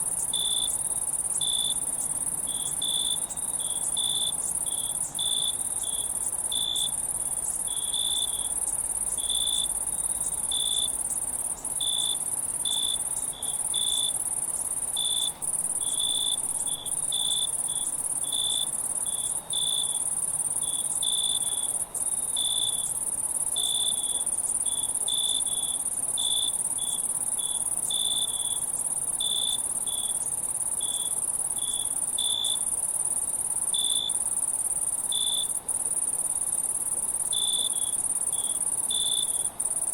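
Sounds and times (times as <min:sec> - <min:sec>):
high-pitched insect trill: 0:00.0 - 0:39.9
insects chirping: 0:00.0 - 0:39.9.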